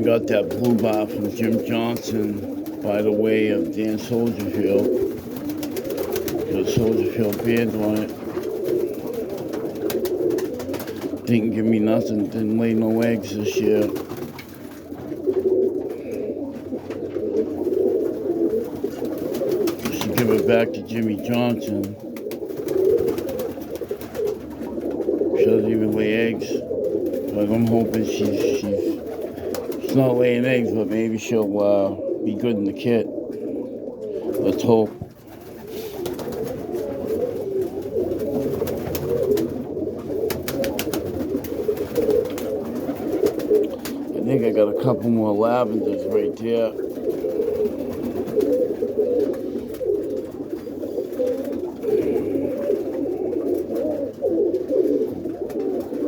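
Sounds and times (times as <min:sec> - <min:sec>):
pigeons cooing: 0:00.0 - 0:56.0.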